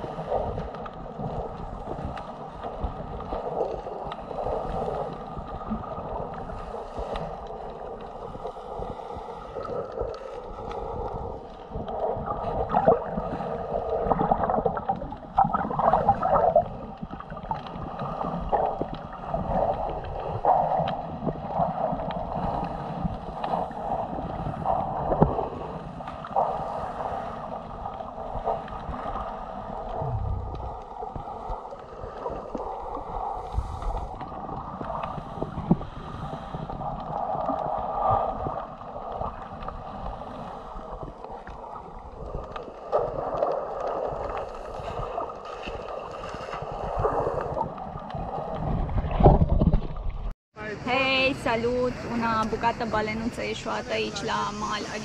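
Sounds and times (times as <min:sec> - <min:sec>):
underwater gurgling and sloshing: 0:00.0 - 0:55.0.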